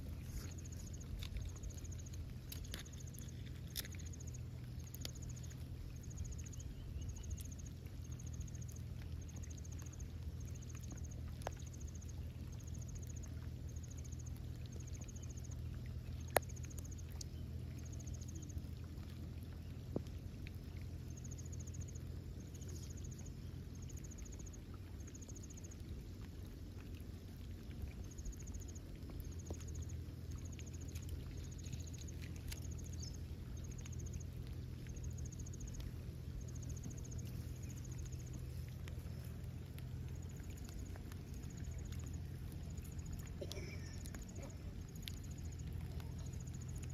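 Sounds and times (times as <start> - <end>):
steady low rumble: 0.0 - 46.9.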